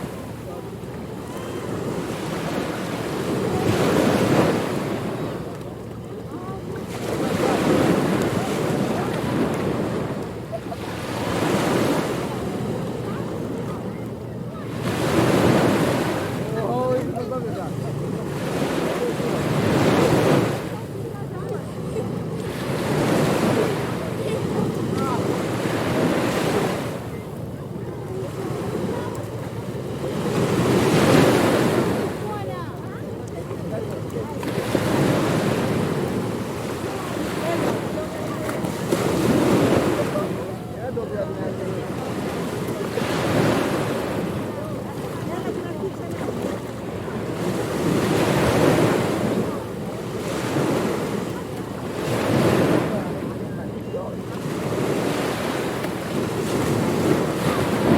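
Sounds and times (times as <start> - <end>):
ocean surf washing in: 0.0 - 57.9.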